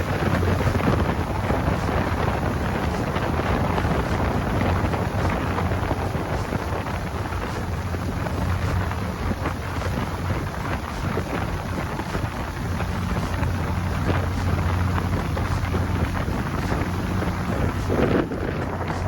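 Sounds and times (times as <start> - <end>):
boat engine droning: 0.0 - 19.0
rushing hiss of boat moving: 0.0 - 19.0
wind buffeting microphone: 0.0 - 19.0.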